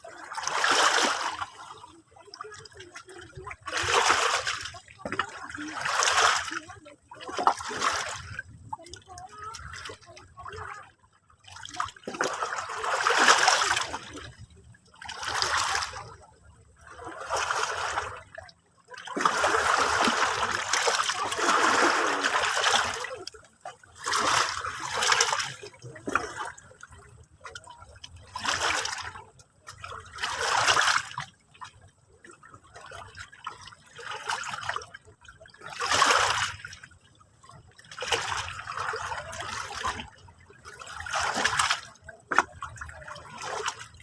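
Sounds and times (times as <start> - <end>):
sea water splashing: 0.0 - 44.0.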